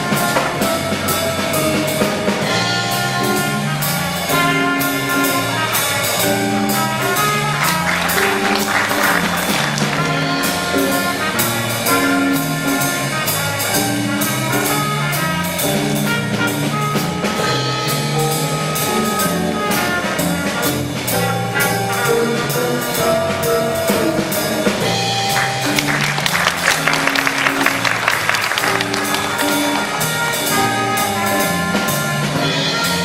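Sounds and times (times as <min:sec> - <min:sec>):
brass carrying the tune: 0:00.0 - 0:33.0
concert band playing a march: 0:00.0 - 0:33.0
steady drum beat: 0:00.0 - 0:33.0.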